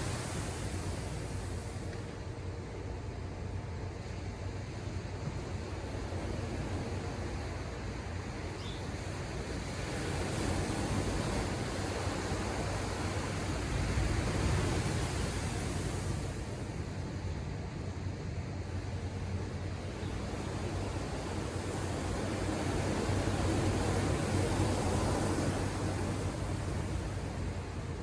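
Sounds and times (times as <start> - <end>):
low rumble of sea: 0.0 - 28.0.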